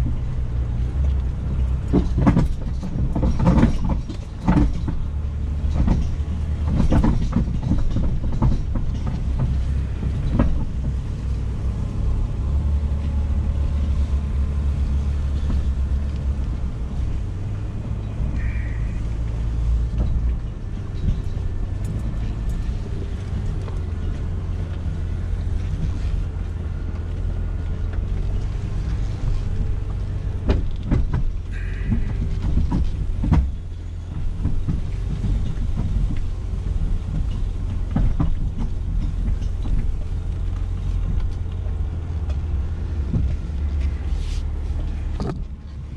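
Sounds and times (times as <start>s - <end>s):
knocks and rattles over bumps: 0.0s - 45.9s
vehicle engine running: 0.0s - 45.9s.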